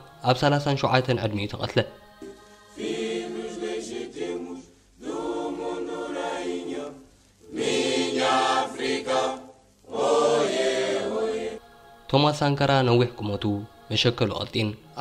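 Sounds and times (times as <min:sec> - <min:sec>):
choir singing: 0:00.0 - 0:15.0.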